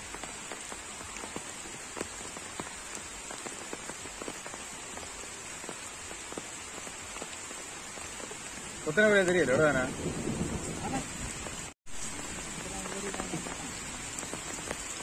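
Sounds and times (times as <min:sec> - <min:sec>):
raindrops striking close by: 0:00.0 - 0:15.0
steady rain falling: 0:00.0 - 0:15.0.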